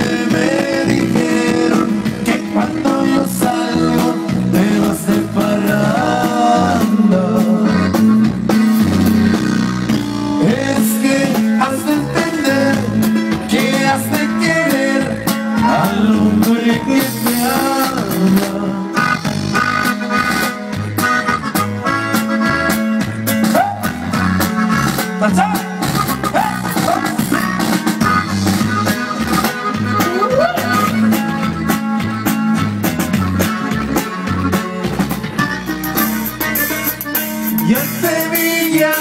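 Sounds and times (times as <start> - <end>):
guitar: 0.0 - 39.0
live band instrumental: 0.0 - 39.0.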